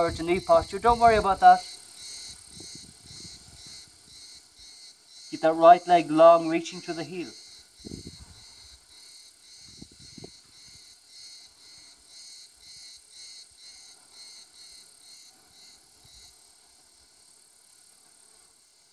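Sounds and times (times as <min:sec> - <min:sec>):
insect chirping: 0:00.0 - 0:18.9.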